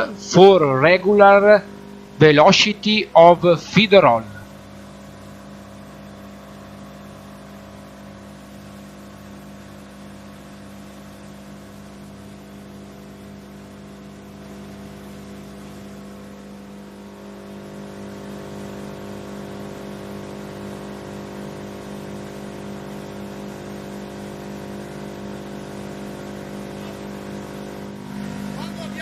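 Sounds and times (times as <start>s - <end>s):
wood chipper running: 0.0s - 29.0s.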